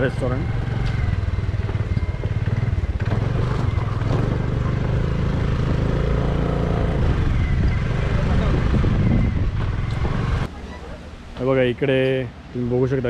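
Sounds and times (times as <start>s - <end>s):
small motorcycle engine running: 0.0s - 10.5s.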